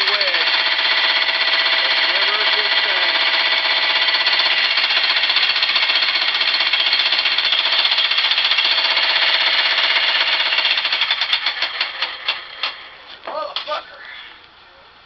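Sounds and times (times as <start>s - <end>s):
jackhammer running: 0.0s - 13.0s.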